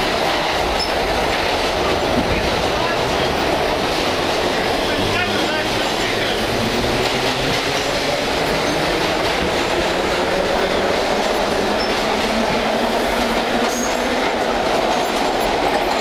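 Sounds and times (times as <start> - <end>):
subway wheel and track noise: 0.0 - 16.0.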